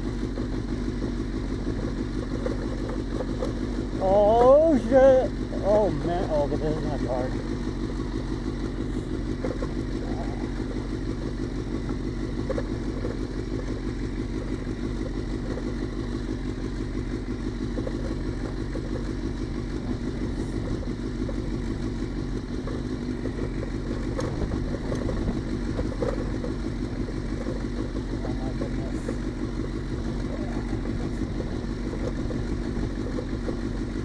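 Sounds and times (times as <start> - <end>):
motorcycle engine running at low revs: 0.0 - 34.0.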